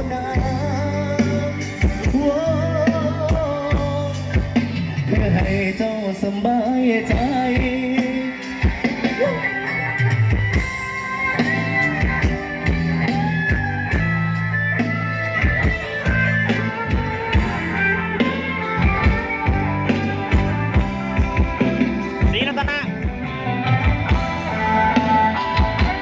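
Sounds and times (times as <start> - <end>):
drum kit: 0.0 - 26.0
electric guitar lead: 0.0 - 26.0.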